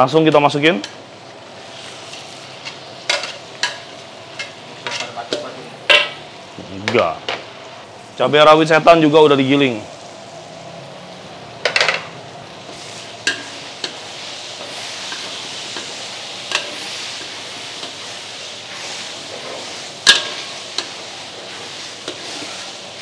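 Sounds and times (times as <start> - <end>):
chillies sizzling in oil: 0.0 - 23.0.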